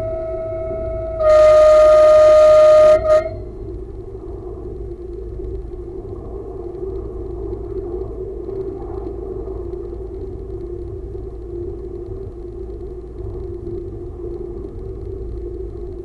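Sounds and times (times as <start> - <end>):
even hum: 0.0 - 16.0
railcar engine and wheels rumbling: 0.0 - 16.0.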